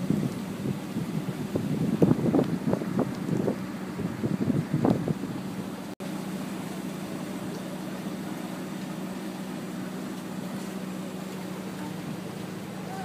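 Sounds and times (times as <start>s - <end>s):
boat engine humming: 0.0s - 13.0s
water rushing: 0.0s - 13.0s.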